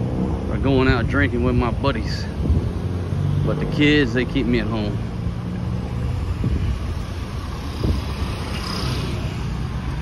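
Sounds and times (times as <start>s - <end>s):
car and motorcycle engines: 0.0s - 10.0s
rumble of engines and tyres: 0.0s - 10.0s.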